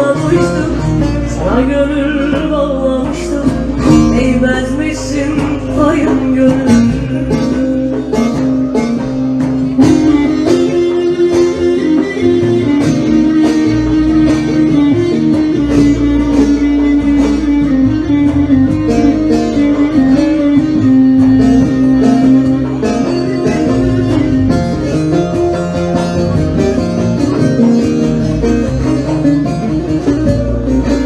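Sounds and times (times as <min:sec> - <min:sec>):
plucked string instrument melody: 0:00.0 - 0:31.0
steady beat: 0:05.4 - 0:31.0.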